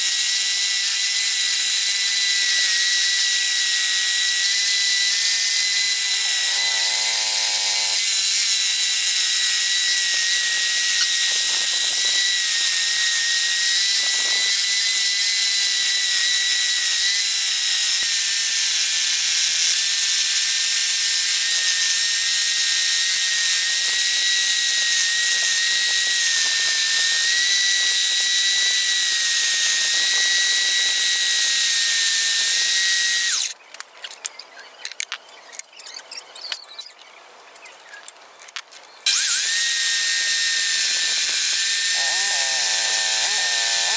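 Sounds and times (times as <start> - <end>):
scroll saw cutting wood: 0.0 - 34.3, 38.5 - 43.9.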